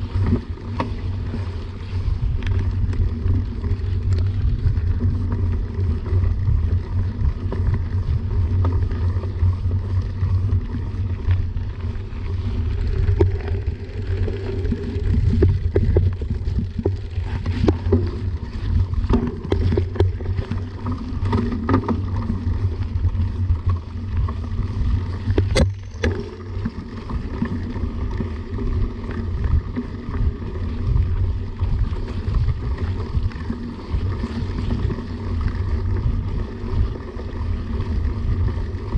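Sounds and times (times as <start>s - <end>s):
tyre and wind rumble: 0.0s - 38.9s.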